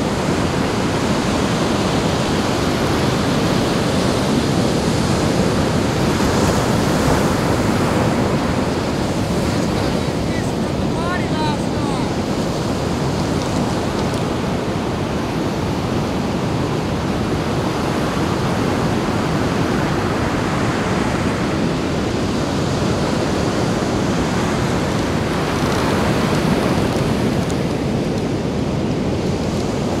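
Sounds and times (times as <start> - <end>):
surf breaking on beach: 0.0 - 30.0
wind on microphone: 0.0 - 30.0.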